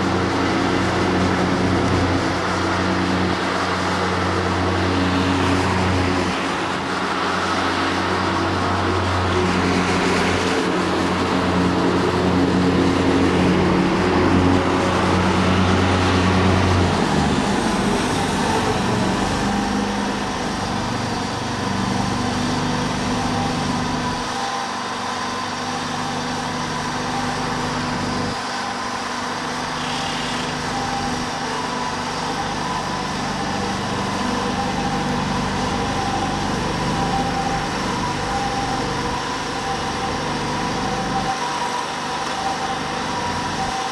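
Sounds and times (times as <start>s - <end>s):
leaf vacuum motor droning: 0.0s - 43.9s.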